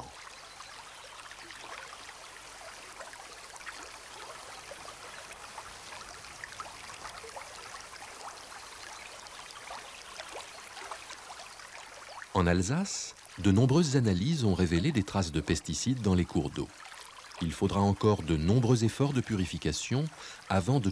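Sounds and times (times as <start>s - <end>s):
river water flowing: 0.0s - 20.9s
small water splashes: 0.0s - 20.9s.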